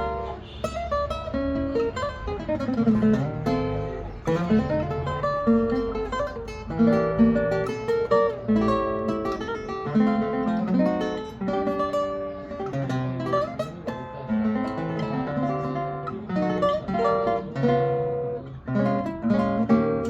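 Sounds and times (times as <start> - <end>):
guitar plucked and strummed: 0.0 - 20.0.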